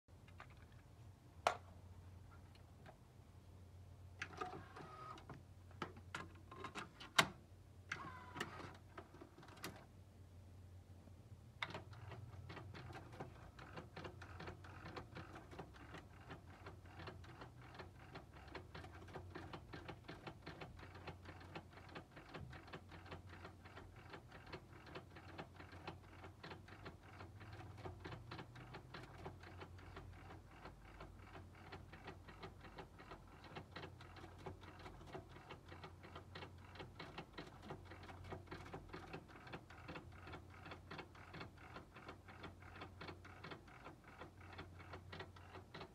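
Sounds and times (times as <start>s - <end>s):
cassette tape transport ticking: 4.1s - 9.9s, 11.6s - 45.9s.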